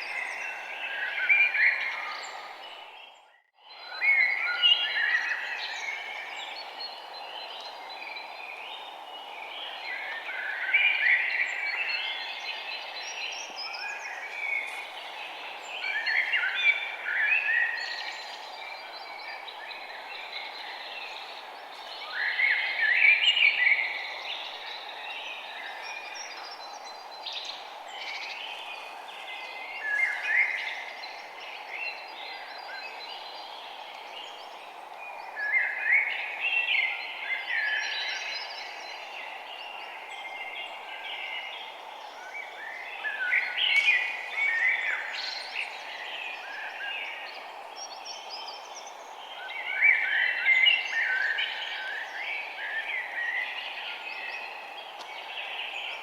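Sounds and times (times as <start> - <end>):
songbirds chirping and trilling: 0.0 - 56.0
steady background hiss: 4.0 - 56.0.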